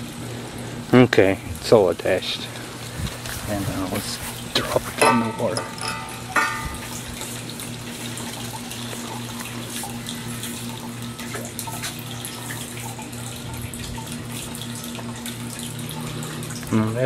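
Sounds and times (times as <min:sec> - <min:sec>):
water rushing through drain: 0:00.0 - 0:17.0.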